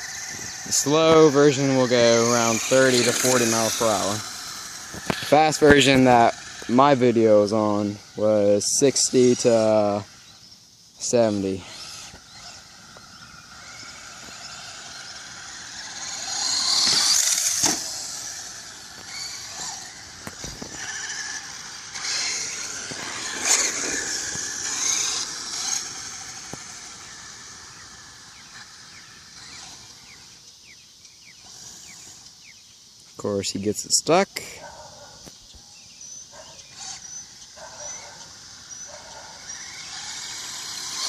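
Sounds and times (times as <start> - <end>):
electric motor whining: 0.0 - 32.4, 36.0 - 41.0.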